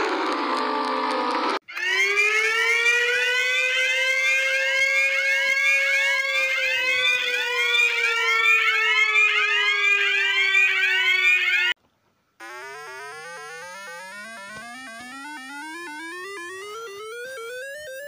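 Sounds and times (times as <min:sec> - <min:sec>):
alarm tone drifting: 0:01.8 - 0:11.8, 0:12.4 - 0:18.0.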